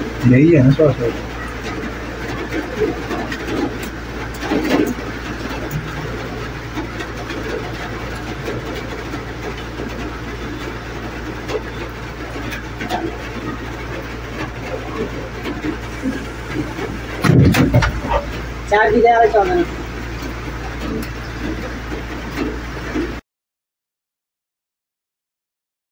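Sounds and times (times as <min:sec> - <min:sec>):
low mechanical engine hum: 0:00.0 - 0:23.2.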